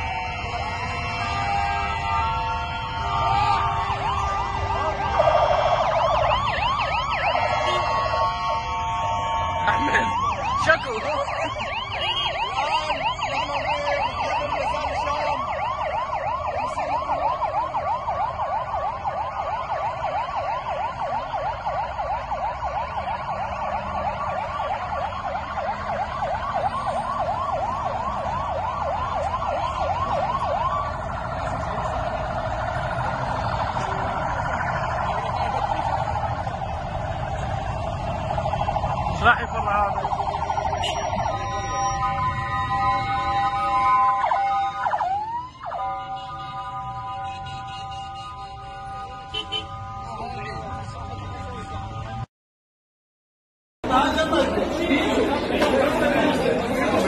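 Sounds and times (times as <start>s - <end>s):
fast yelping siren: 0.0s - 52.2s
fire engine sirens wailing: 0.0s - 52.3s, 53.8s - 57.0s.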